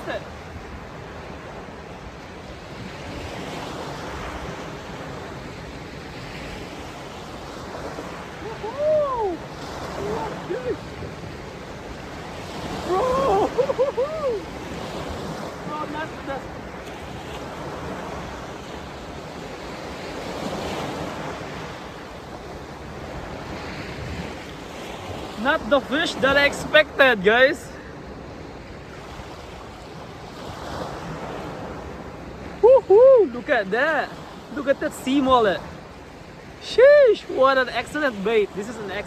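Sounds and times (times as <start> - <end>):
surf breaking on a beach: 0.0 - 39.0
wind: 0.0 - 39.0.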